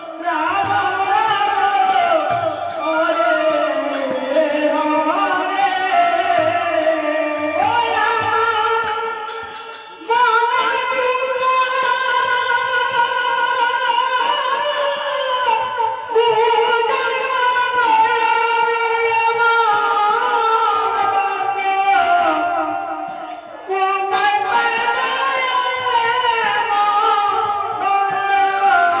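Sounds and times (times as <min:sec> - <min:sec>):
woman singing devotional song: 0:00.0 - 0:29.0.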